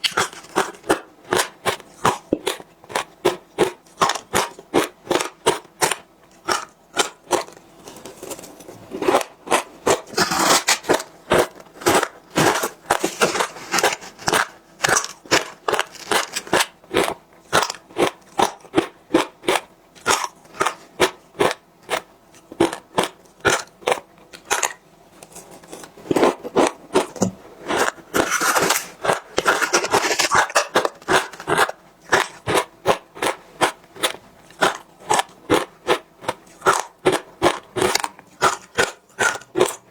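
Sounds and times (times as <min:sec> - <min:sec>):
ice crunching in mouth: 0:00.0 - 0:21.6, 0:22.6 - 0:33.4, 0:34.0 - 0:39.9.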